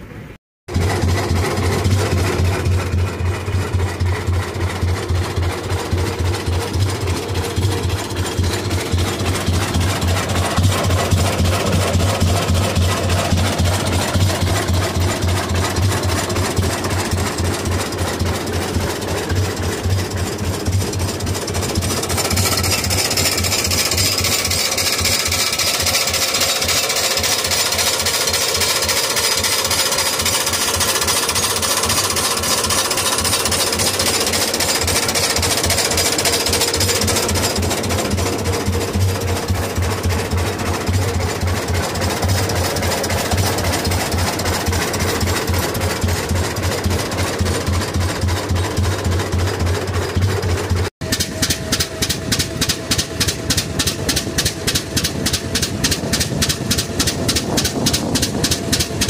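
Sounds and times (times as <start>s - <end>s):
tractor engine chugging: 0.0s - 59.0s.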